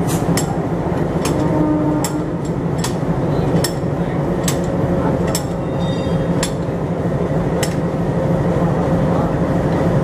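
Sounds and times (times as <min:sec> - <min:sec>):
diesel locomotive idling: 0:00.0 - 0:10.0.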